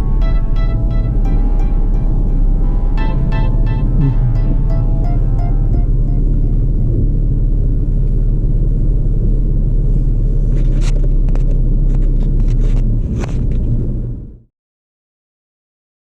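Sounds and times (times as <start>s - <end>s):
vehicle driving rumble: 0.0s - 14.5s.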